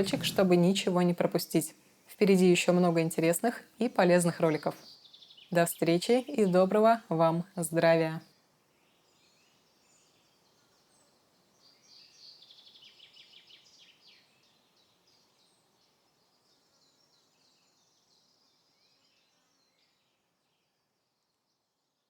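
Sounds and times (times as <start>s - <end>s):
faint birdsong: 0.0s - 22.0s.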